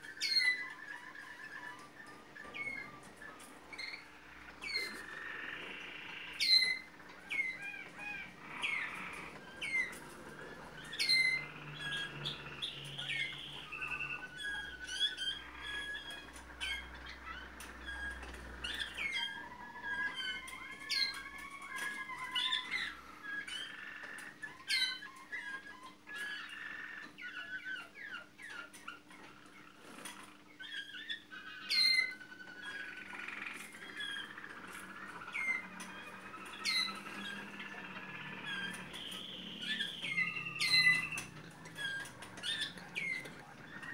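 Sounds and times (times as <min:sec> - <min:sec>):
canaries singing: 0:00.0 - 0:43.9.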